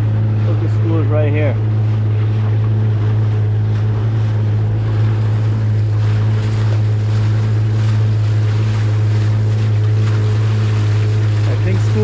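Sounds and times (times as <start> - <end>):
outboard motor drone: 0.0 - 12.0
water splashing along hull: 0.0 - 12.0.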